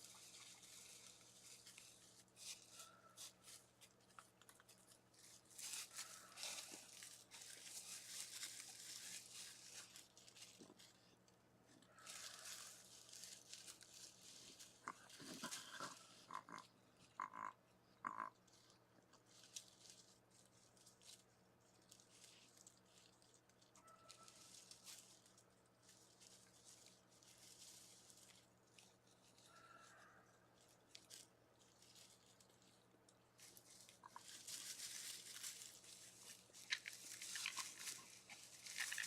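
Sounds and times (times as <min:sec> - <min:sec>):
faint scratching and rustling: 0:00.0 - 0:17.2, 0:18.4 - 0:39.0.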